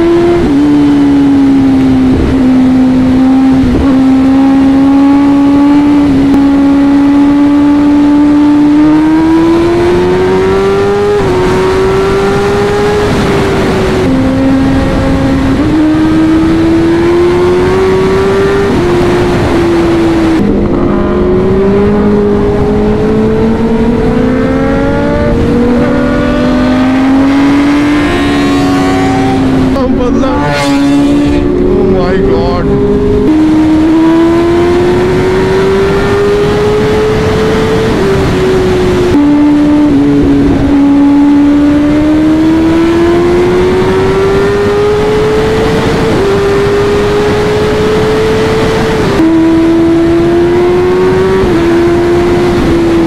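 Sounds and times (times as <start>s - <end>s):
heavy wind rush: 0.0s - 53.0s
motorcycle engine revving: 0.0s - 53.0s.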